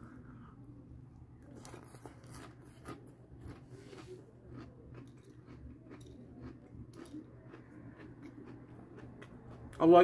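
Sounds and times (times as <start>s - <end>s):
chewing crunchy cereal: 1.4s - 10.0s.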